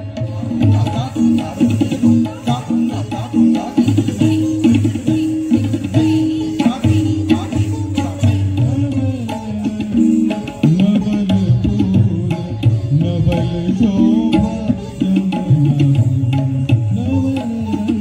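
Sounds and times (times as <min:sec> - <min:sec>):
tabla strokes: 0:00.0 - 0:18.0.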